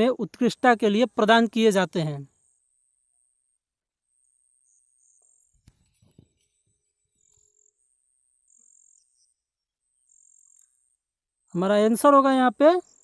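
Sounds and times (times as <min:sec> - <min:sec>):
faint high-pitched chirping: 0:00.0 - 0:13.0.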